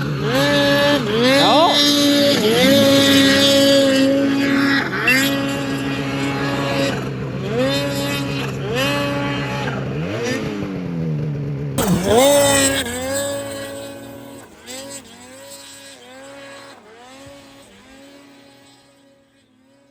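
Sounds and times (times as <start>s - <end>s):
snowmobile engine revving: 0.0s - 10.6s, 11.8s - 19.9s.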